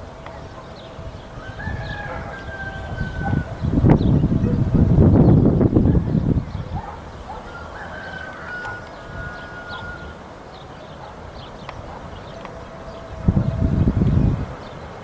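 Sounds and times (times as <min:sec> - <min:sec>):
birds chirping and whistling: 0:00.1 - 0:15.0.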